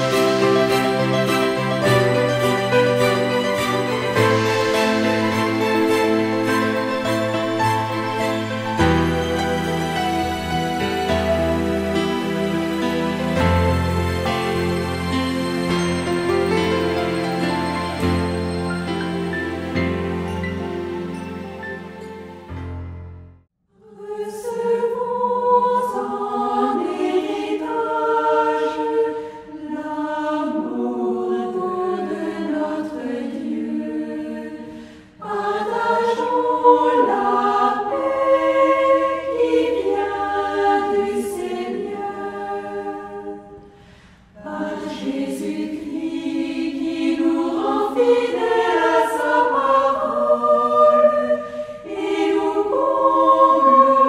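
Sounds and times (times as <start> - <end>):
choir singing: 0.0 - 22.8, 23.7 - 54.0.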